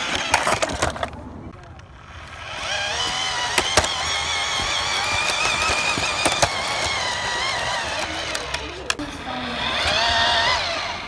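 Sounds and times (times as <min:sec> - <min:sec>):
engine-like revving: 0:00.0 - 0:11.0
sharp clicks: 0:00.0 - 0:11.0.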